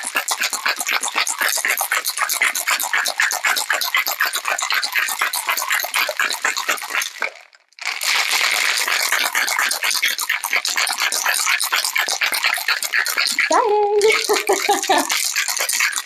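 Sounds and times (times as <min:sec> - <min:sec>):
ice rattling in cocktail shaker: 0:00.0 - 0:16.0.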